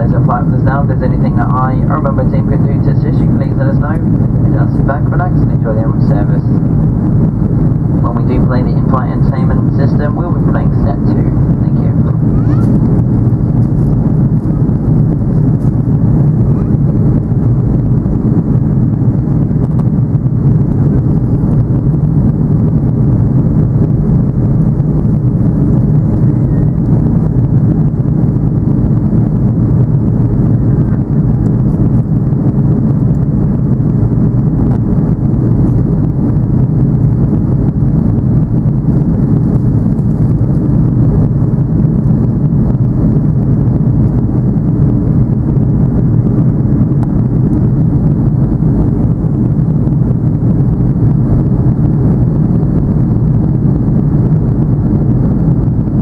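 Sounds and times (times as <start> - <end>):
aircraft engines rumbling in cabin: 0.0 - 56.0.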